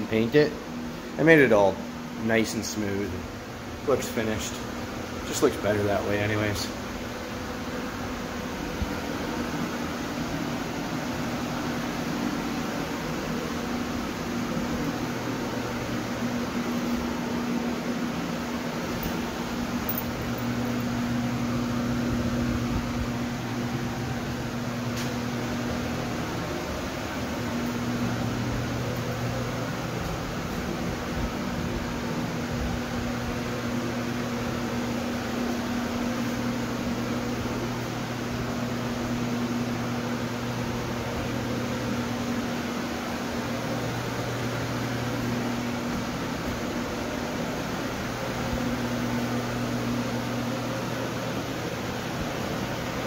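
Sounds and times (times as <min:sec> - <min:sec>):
electric fan humming and whooshing: 0:00.0 - 0:53.0.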